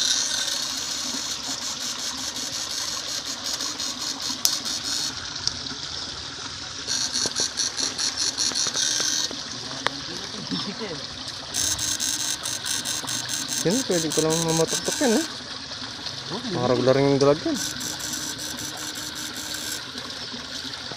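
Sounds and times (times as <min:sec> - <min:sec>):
electric fishing device buzzing: 0:00.0 - 0:05.4, 0:06.8 - 0:10.7, 0:11.3 - 0:20.9.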